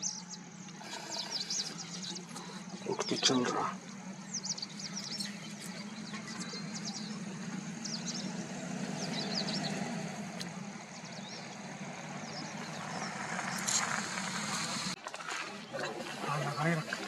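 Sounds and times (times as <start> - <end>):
vehicle engine idling: 0.0 - 15.0
small birds chirping: 0.0 - 17.0.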